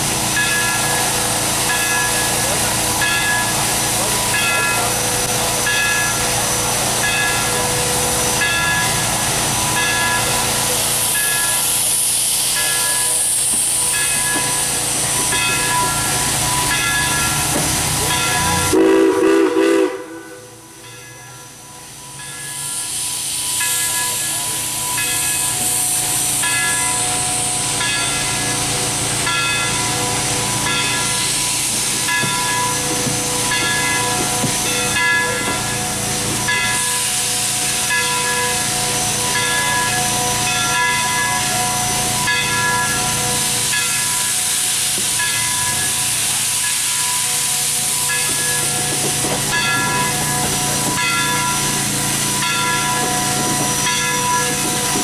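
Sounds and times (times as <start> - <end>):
steam hissing: 0.0 - 55.0
steam locomotive chuffing: 0.0 - 55.0.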